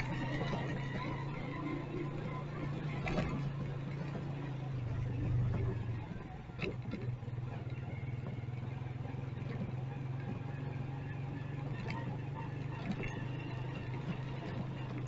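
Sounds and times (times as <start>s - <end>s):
faint street traffic: 0.0s - 15.0s
motorcycle engine running: 0.0s - 15.0s.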